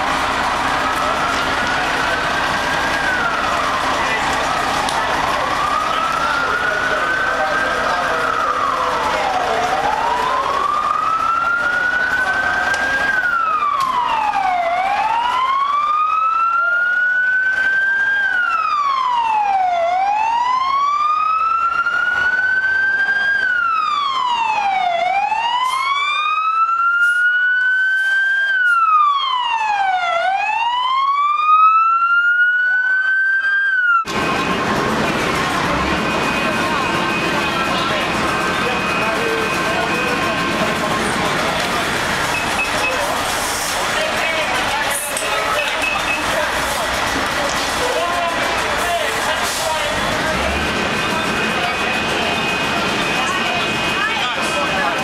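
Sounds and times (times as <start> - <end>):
emergency siren wailing: 0.0 - 55.0.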